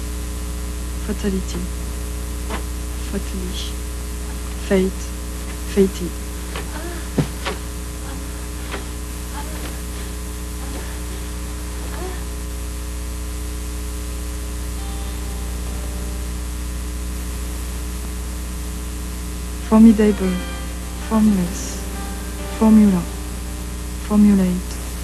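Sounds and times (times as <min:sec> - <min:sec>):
electrical mains hum: 0:00.0 - 0:25.0
static hiss: 0:00.0 - 0:25.0.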